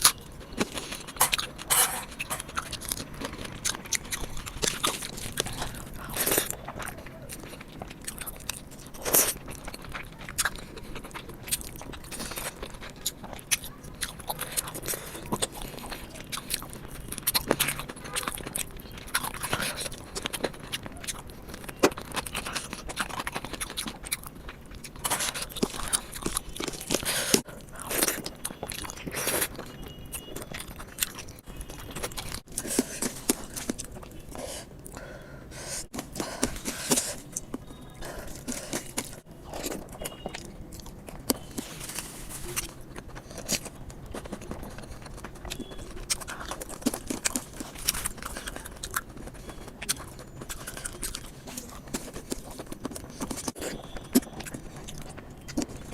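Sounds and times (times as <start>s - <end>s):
wet chewing with crunches: 0.0s - 55.9s.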